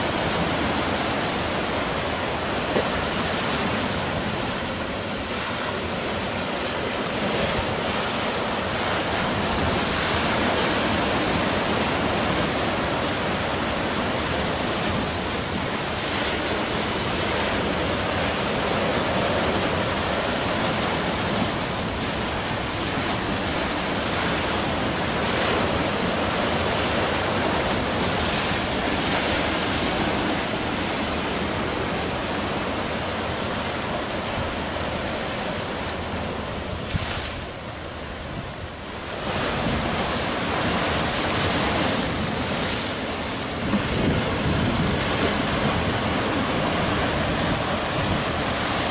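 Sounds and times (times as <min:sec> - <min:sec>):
sea surf breaking on shore: 0:00.0 - 0:48.9.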